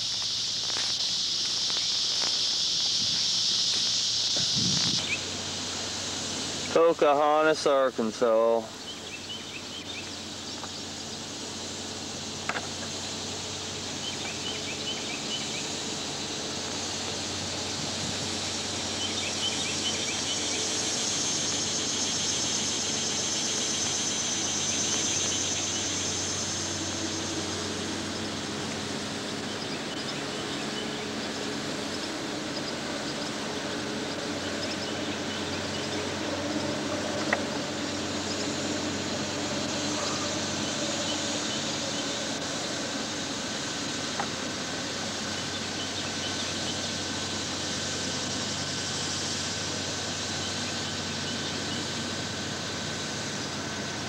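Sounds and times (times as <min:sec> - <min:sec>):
high pulsing insect buzz: 0:00.0 - 0:54.0
low river rumble: 0:01.9 - 0:54.0.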